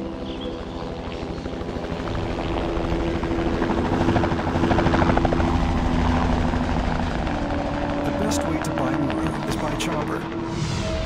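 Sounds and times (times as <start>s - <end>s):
helicopter turbine engine and rotor: 0.0s - 11.0s.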